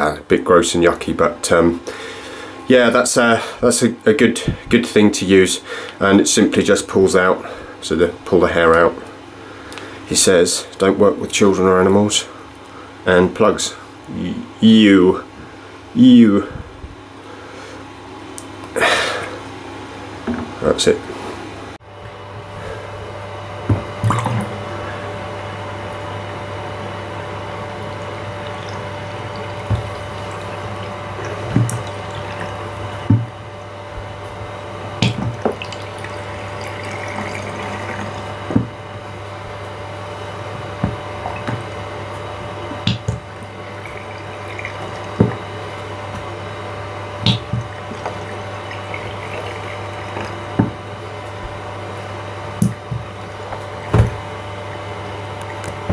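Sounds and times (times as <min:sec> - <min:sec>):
steady background hum: 0:00.0 - 0:55.9.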